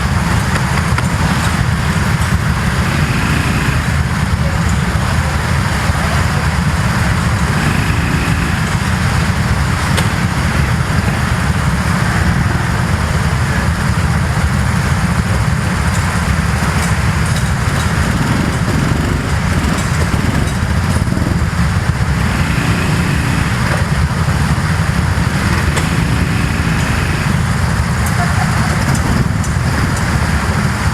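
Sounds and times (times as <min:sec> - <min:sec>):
go-kart engines running: 0:00.0 - 0:30.9.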